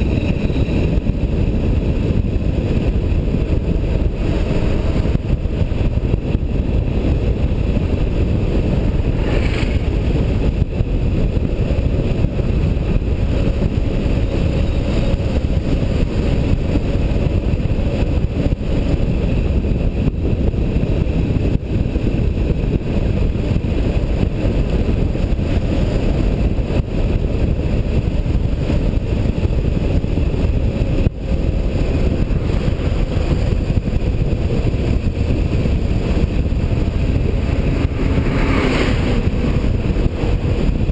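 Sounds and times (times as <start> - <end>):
engine and road noise: 0.0 - 40.9
wind rumble on microphone: 0.0 - 40.9.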